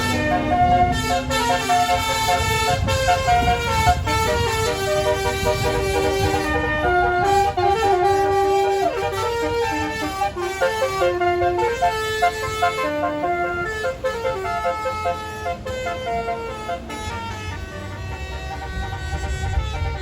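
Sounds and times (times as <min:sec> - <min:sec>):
low engine rumble: 0:00.0 - 0:20.0
multi-note bus horn melody: 0:00.0 - 0:20.0.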